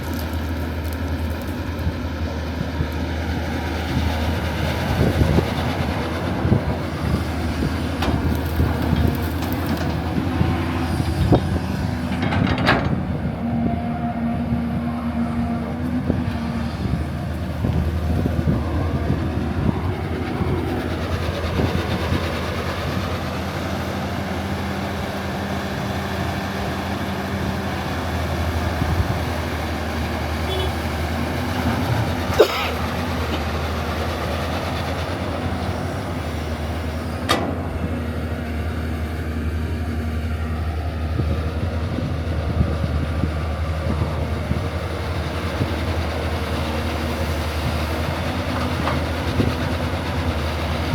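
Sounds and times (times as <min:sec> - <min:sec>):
low mechanical drone: 0:00.0 - 0:50.9.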